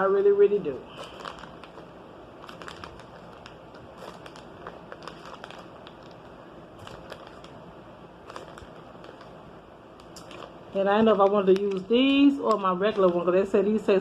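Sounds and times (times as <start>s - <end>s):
faint clicks and rustling: 1.0s - 7.6s, 8.2s - 9.4s, 10.0s - 13.5s.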